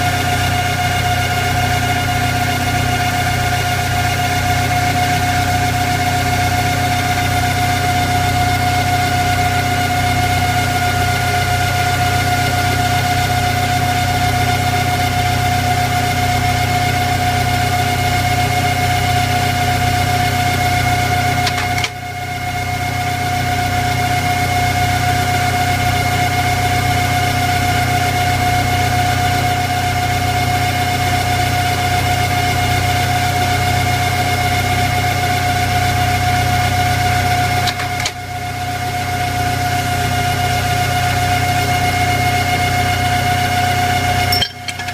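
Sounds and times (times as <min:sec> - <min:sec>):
automatic lathe whine: 0:00.0 - 0:44.9.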